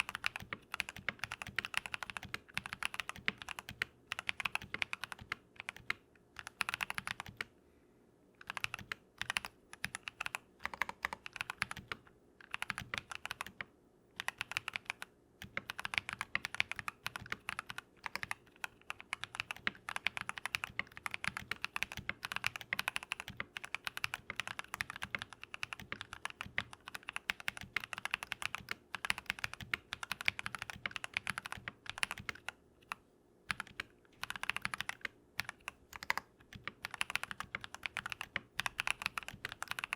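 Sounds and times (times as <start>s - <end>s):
mechanical keyboard typing: 0.0s - 7.5s, 8.4s - 39.9s.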